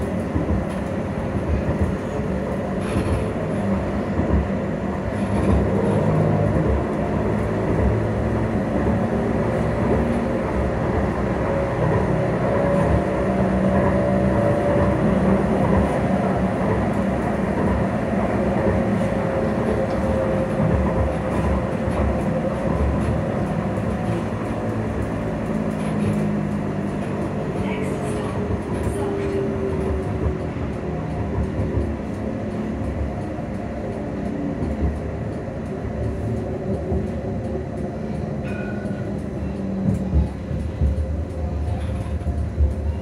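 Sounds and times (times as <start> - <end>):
tram wheels rumbling on rail: 0.0 - 43.0.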